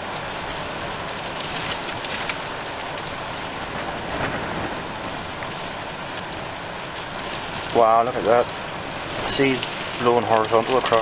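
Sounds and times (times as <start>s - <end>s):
heavy rain hiss: 0.0s - 11.0s
raindrops tapping close by: 0.0s - 11.0s.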